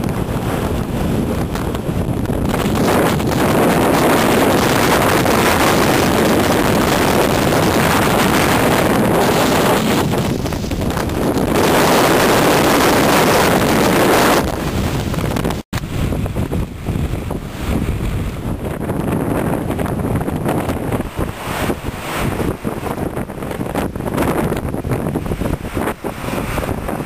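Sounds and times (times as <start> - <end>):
surf breaking: 0.0 - 27.0
wind noise on microphone: 0.0 - 27.0.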